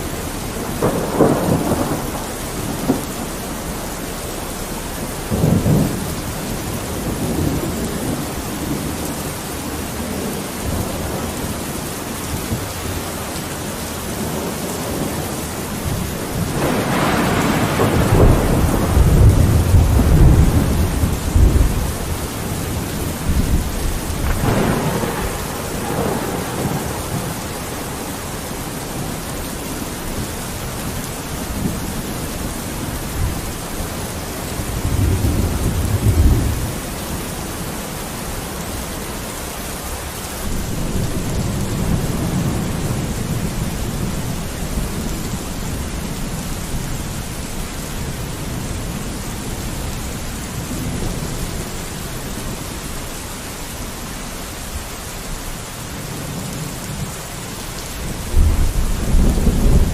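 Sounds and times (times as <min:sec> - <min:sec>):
thunder rumbling: 0:00.0 - 0:54.8, 0:55.4 - 0:59.9
rain on a window: 0:00.0 - 0:59.9.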